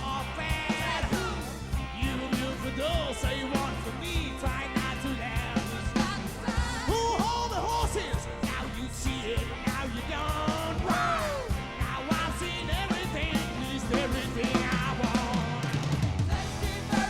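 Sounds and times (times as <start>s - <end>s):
drum kit beat: 0.0s - 17.0s
live band playing rock and roll: 0.0s - 17.0s.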